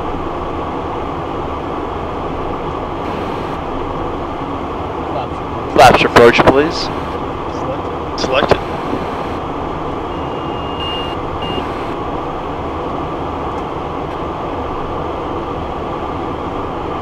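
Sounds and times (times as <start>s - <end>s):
jet cockpit airflow and engine noise: 0.0s - 17.0s.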